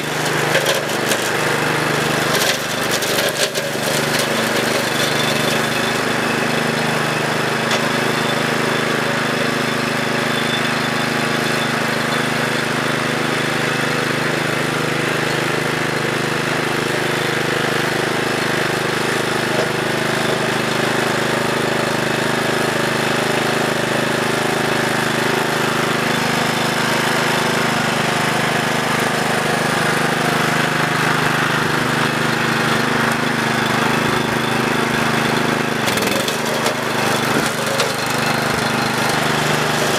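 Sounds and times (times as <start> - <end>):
mower engine running: 0.0 - 39.9
mower pushed through grass: 0.0 - 39.9.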